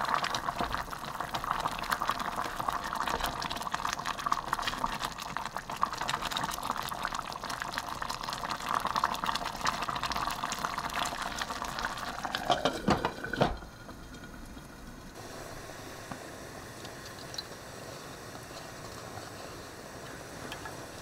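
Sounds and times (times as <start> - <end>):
curry bubbling in a pot: 0.0 - 21.0.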